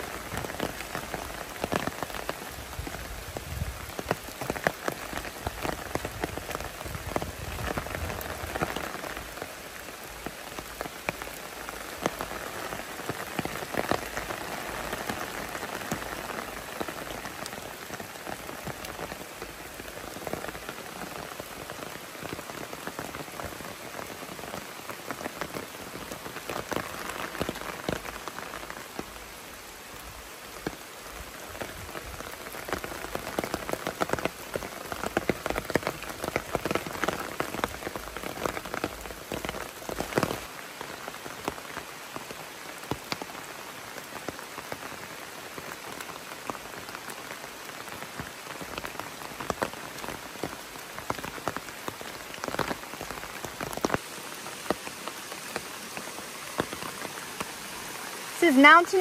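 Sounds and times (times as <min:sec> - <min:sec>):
rain falling in forest: 0:00.0 - 0:59.0.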